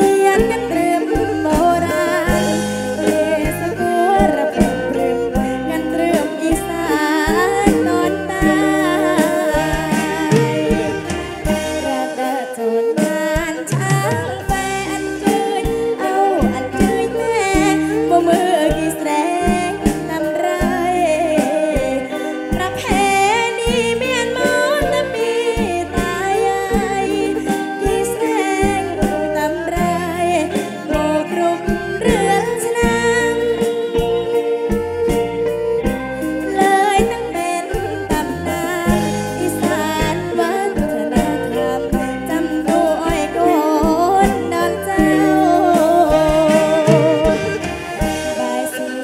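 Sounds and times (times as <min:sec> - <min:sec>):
live band music: 0:00.0 - 0:49.0
woman singing into microphone: 0:00.0 - 0:49.0.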